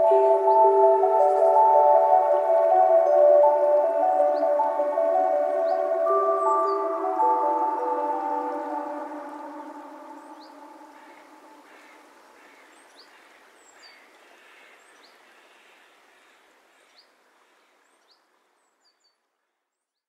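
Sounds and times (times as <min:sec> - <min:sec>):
steady background hiss: 0:00.0 - 0:19.8.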